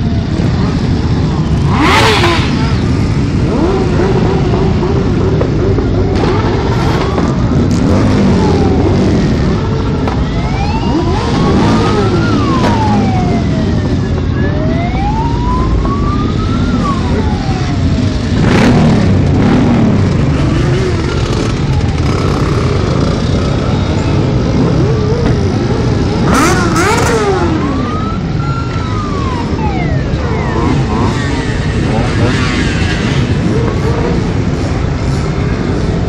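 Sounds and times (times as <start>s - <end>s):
motorcycle engines pulling away: 0.0s - 36.0s
siren wailing: 3.5s - 18.4s, 20.1s - 34.5s.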